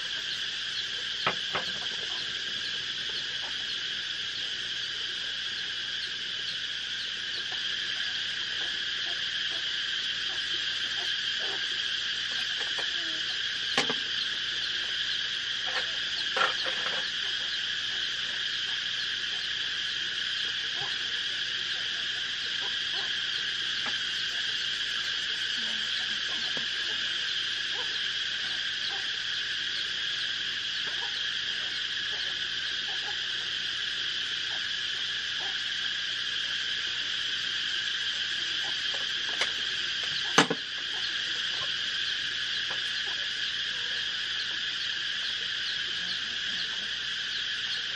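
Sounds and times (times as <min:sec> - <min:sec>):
insects chorus: 0:00.0 - 0:47.9.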